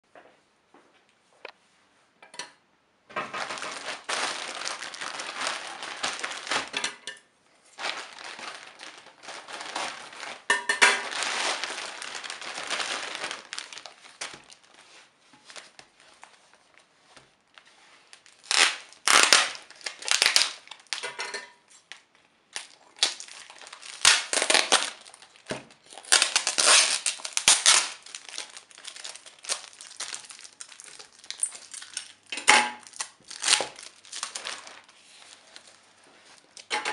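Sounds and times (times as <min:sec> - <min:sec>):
plastic mailer crinkling: 0:03.2 - 0:07.0, 0:07.7 - 0:16.4, 0:17.5 - 0:21.0, 0:22.6 - 0:36.9.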